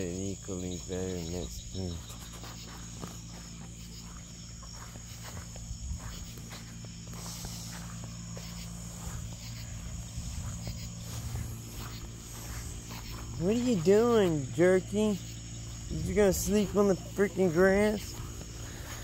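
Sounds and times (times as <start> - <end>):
crickets and insects chirping: 0.0 - 19.0
low steady hum: 0.0 - 19.0
soft rustles in grass: 0.0 - 19.0.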